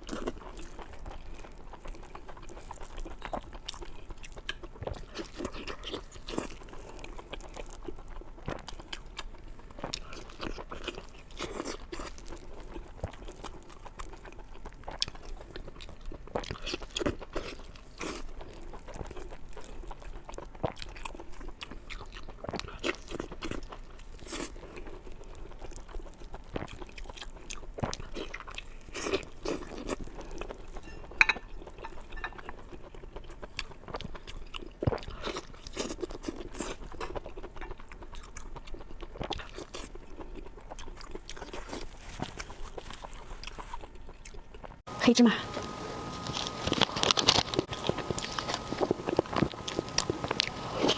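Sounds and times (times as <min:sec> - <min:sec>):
person chewing crunchy food: 0:00.0 - 0:44.9, 0:45.5 - 0:50.9.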